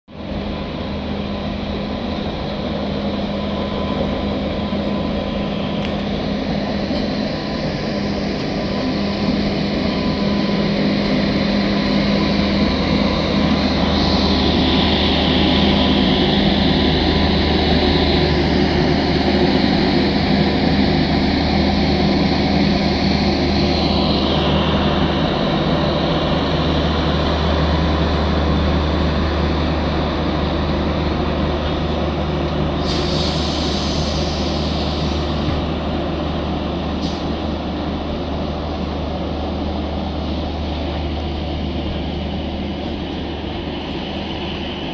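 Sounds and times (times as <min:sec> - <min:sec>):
train rumbling past: 0:00.1 - 0:44.9.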